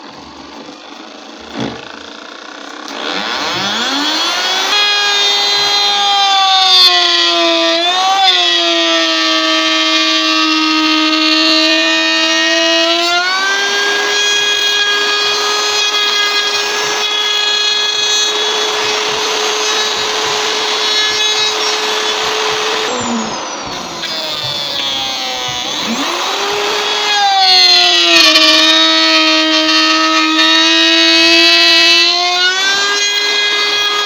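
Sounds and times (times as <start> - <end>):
power tool motor whining: 0.0 - 34.0.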